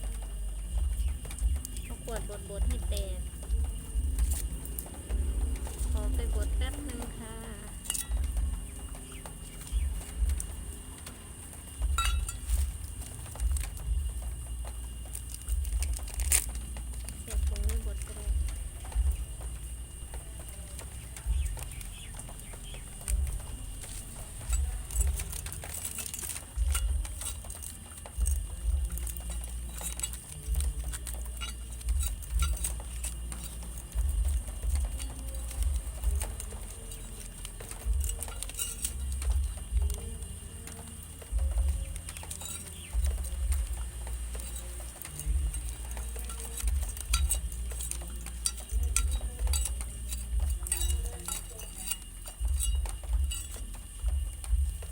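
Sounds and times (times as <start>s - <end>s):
heavy low rumbles: 0.0s - 54.9s
seeds crushed under glass bottle: 0.0s - 54.9s.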